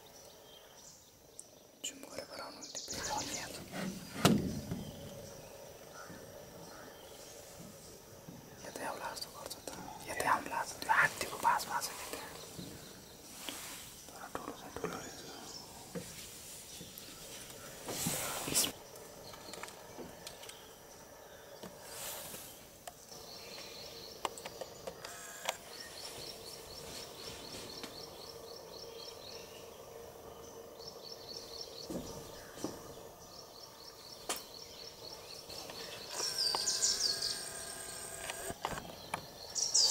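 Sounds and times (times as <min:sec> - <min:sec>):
bird calls: 0:00.0 - 0:29.7, 0:30.9 - 0:39.9.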